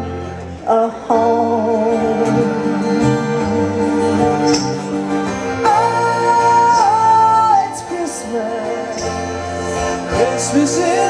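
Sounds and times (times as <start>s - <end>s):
live band music: 0.0s - 11.0s.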